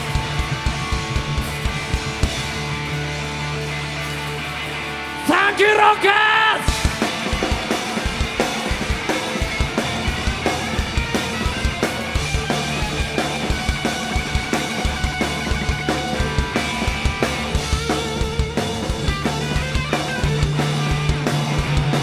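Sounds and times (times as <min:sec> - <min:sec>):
drum kit beating fast rhythm: 0:00.0 - 0:22.0
rock band playing: 0:00.0 - 0:22.0.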